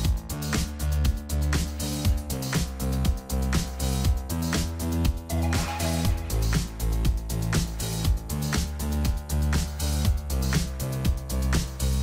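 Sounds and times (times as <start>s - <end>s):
dance music with bass line: 0.0s - 12.0s.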